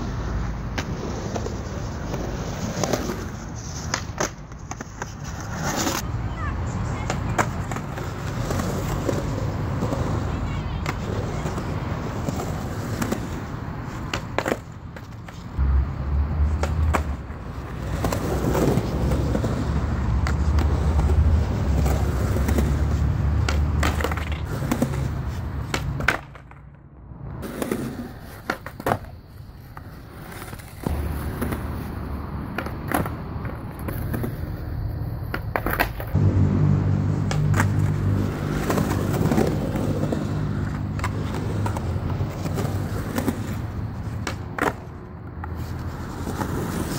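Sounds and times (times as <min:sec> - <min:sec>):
skateboard wheels rolling on concrete: 0:00.0 - 0:46.9
skateboard clacking on concrete: 0:00.7 - 0:06.0, 0:06.7 - 0:15.5, 0:16.5 - 0:26.8, 0:27.4 - 0:36.2, 0:37.2 - 0:46.9.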